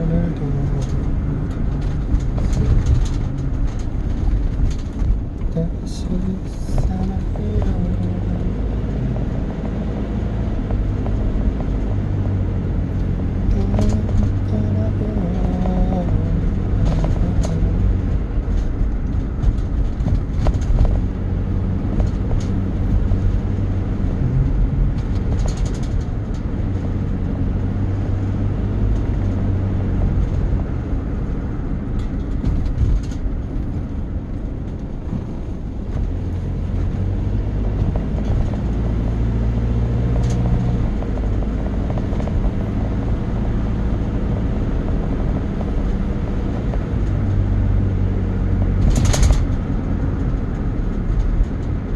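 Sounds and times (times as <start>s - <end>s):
vehicle engine drone: 0.0s - 51.9s.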